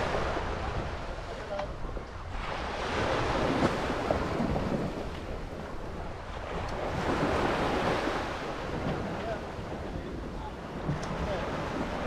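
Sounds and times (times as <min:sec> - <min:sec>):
sea waves: 0:00.0 - 0:12.0
wind buffeting microphone: 0:00.0 - 0:12.0.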